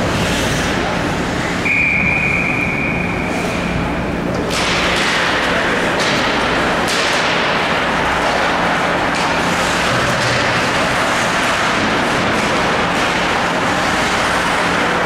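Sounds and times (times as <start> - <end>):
ice hockey arena din: 0.0 - 15.0.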